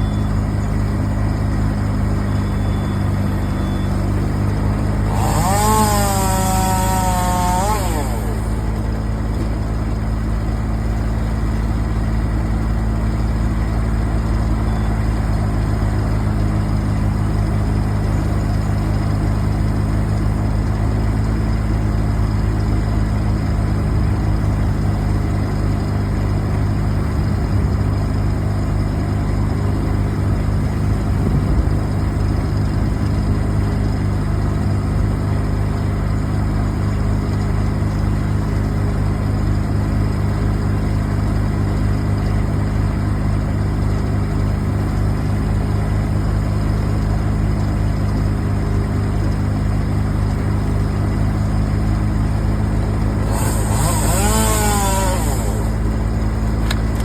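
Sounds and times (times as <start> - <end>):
large engine idling: 0.0 - 57.0.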